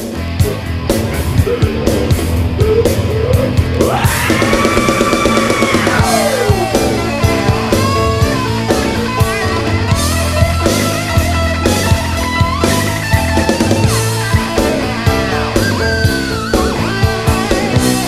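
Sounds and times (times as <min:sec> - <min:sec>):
drum kit: 0:00.0 - 0:18.0
guitar lead line: 0:00.0 - 0:18.0.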